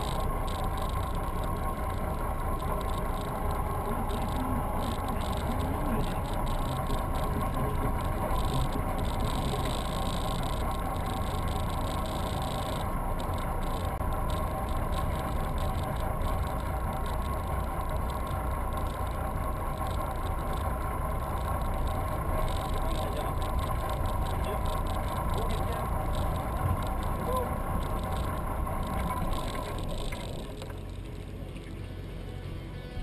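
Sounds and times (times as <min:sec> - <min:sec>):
boat engines rumbling: 0:00.0 - 0:33.0.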